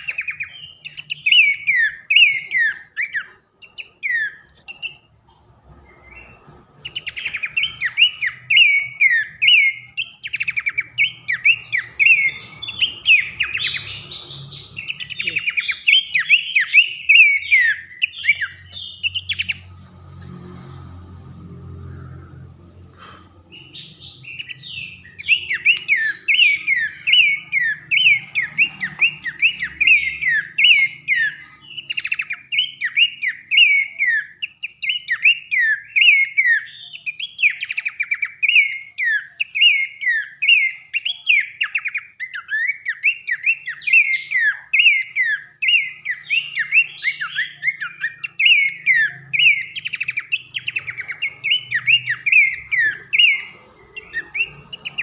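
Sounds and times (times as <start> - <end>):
bird singing whistled notes: 0.0 - 5.1, 5.8 - 19.8, 23.5 - 55.0.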